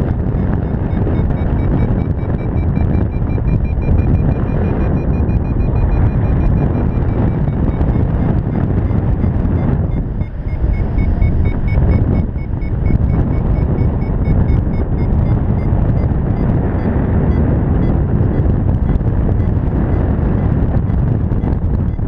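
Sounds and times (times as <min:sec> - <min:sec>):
rapid electronic beeping: 0:00.0 - 0:22.0
wind rushing over microphone: 0:00.0 - 0:22.0.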